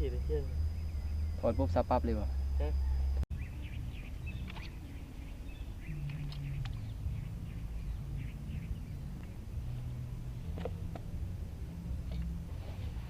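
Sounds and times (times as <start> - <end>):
small birds chirping: 0.0 - 10.8
low steady rumble: 0.0 - 13.0.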